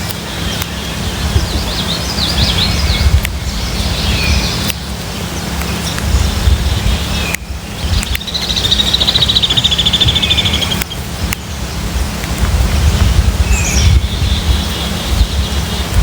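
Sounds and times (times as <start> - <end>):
songbird calling and trilling: 0.0 - 12.2, 13.0 - 16.0
steady low rumble: 0.0 - 16.0.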